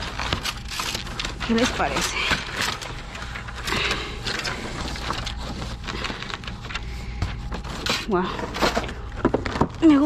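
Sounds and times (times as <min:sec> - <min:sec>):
mirrors and cardboard handled: 0:00.0 - 0:10.0.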